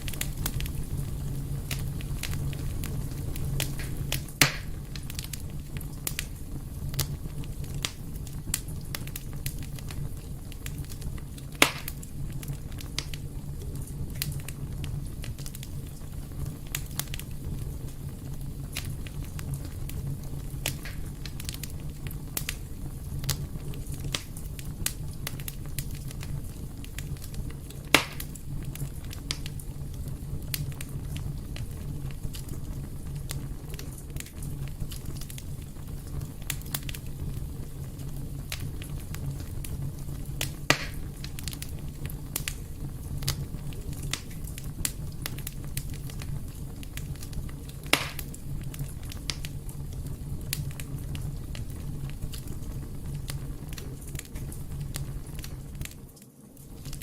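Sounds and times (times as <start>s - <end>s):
fire crackling in fireplace: 0.0s - 57.0s
sharp fire pops: 0.0s - 57.0s.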